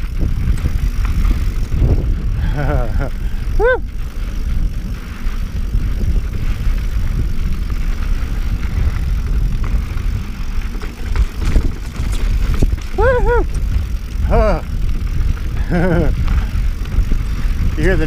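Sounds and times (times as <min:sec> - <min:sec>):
bike rattling over rock: 0:00.0 - 0:18.0
wind rushing on microphone: 0:00.0 - 0:18.0.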